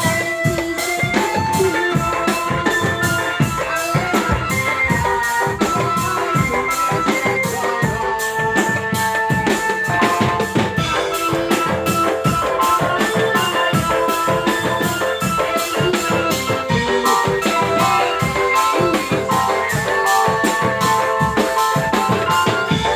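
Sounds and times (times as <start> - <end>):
drum band music: 0.0 - 22.9
snare and bass drums: 0.0 - 22.9
sustained melody line: 0.0 - 22.9.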